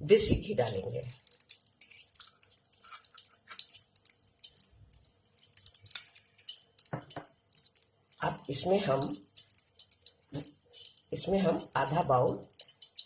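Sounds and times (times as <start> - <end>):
ghee crackling in a pan: 0.0 - 13.0.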